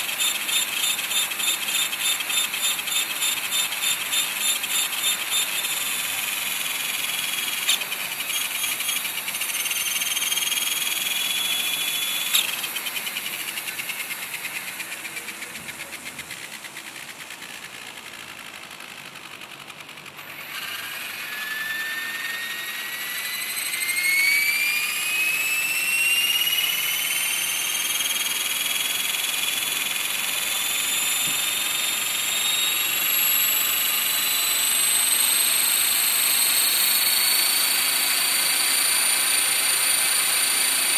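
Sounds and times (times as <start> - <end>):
helicopter motor and rotor whining: 0.0 - 40.9.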